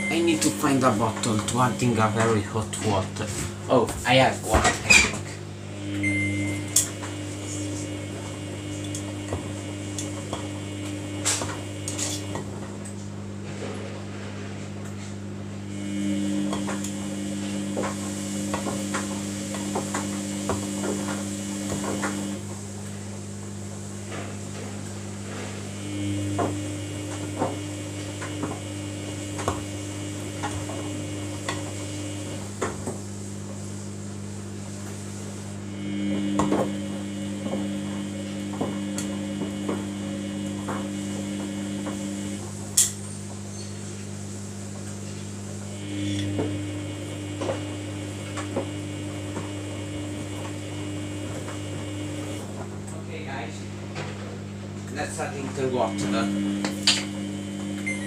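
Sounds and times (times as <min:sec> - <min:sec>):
washing machine drum motor whine: 0:00.0 - 0:58.0.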